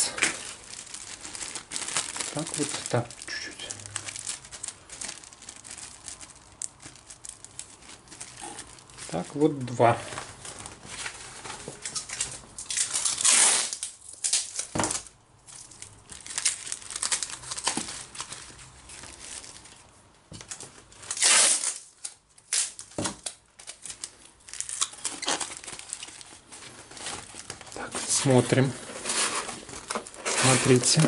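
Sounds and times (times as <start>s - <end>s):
plastic bags crinkling: 0.0s - 31.0s.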